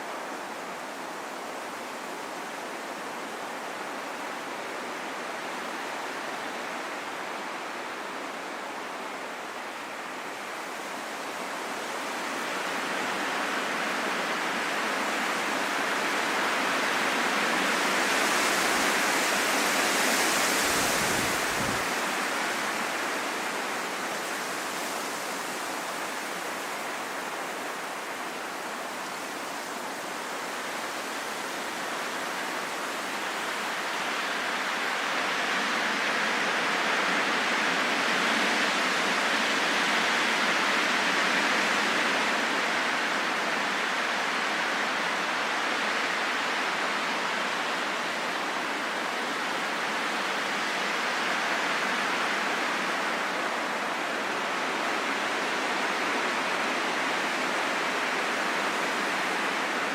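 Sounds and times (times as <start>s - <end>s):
rain falling in forest: 0.0s - 59.9s.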